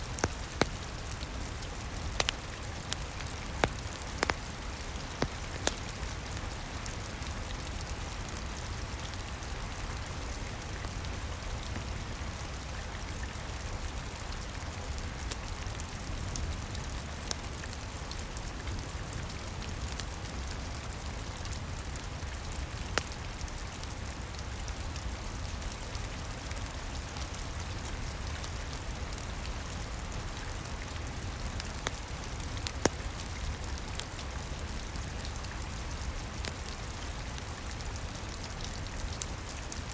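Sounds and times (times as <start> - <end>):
steady rain falling: 0.0 - 39.9
wood fire crackles: 0.0 - 39.9.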